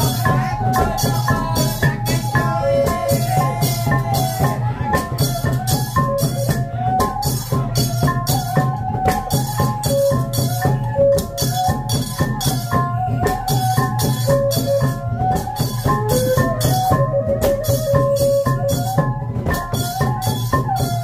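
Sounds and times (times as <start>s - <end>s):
drums and cymbal percussion: 0.0s - 21.0s.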